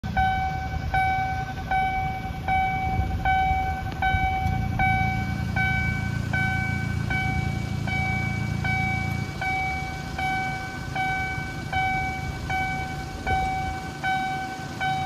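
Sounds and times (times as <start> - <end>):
idling road vehicles rumble: 0.0 - 15.0
level crossing bell ringing: 0.1 - 15.0.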